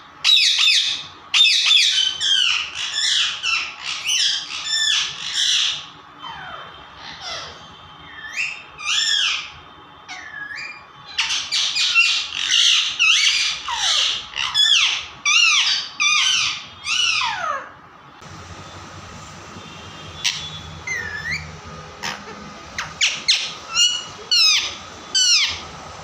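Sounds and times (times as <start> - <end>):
parrot squawking: 0.2 - 17.8, 20.2 - 25.7.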